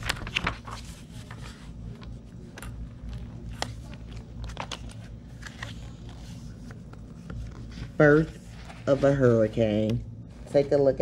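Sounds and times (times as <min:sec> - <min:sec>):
paper pages rustling: 0:00.0 - 0:10.6
low steady hum: 0:00.0 - 0:11.0.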